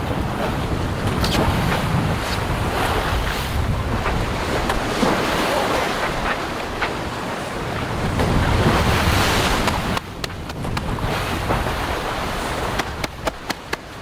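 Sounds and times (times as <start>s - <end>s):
sea rushing along hull: 0.0s - 14.0s
wind buffeting microphone: 0.0s - 14.0s.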